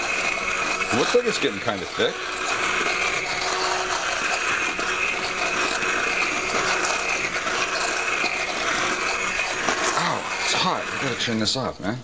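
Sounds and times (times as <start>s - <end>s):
immersion blender running: 0.0s - 11.7s.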